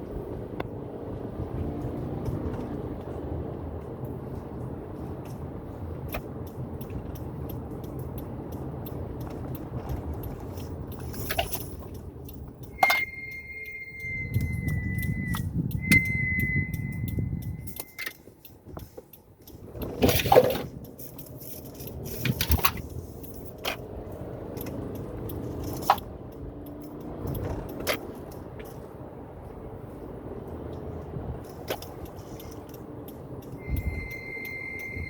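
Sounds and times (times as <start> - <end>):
car rumble: 0.0 - 35.0
brakes squealing: 4.6 - 35.0.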